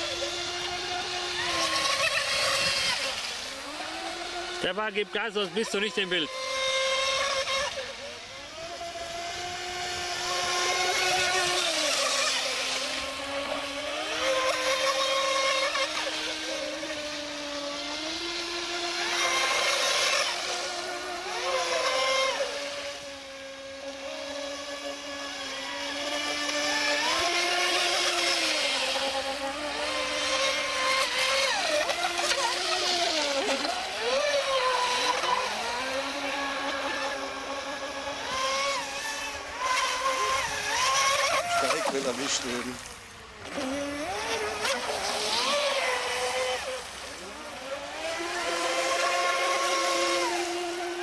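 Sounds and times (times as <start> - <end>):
hulls cutting through water: 0.0 - 51.0
model boat motor whine: 0.0 - 51.0.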